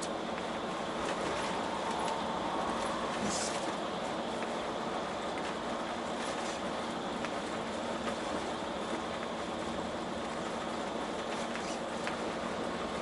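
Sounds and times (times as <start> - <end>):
faint steady hum: 0.0 - 13.0
truck engine and tyre rumble: 0.0 - 13.0.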